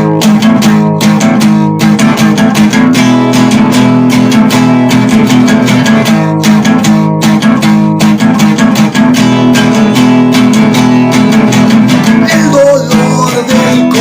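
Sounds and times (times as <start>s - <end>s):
fast guitar picking: 0.0s - 14.0s.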